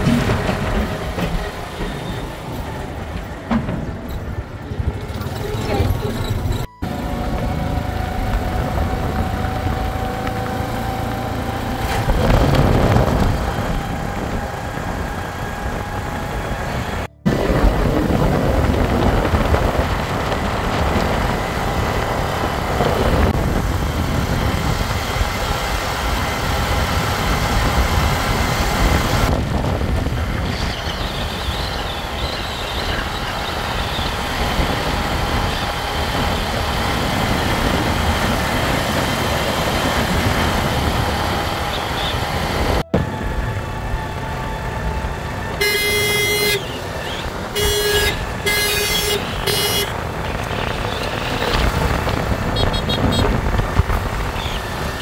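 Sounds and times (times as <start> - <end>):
engine drone: 0.0 - 55.0
road noise: 0.0 - 55.0
wind: 0.0 - 55.0.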